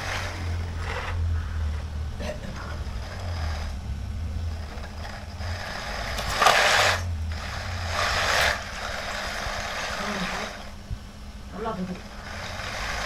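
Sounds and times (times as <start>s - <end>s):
hydraulic pump hum: 0.0s - 13.0s.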